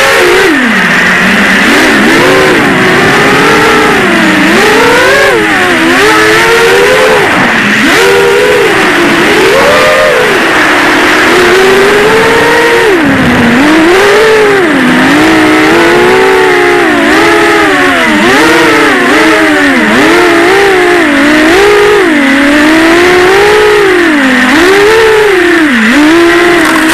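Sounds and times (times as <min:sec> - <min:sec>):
quadcopter motors whining: 0:00.0 - 0:26.9.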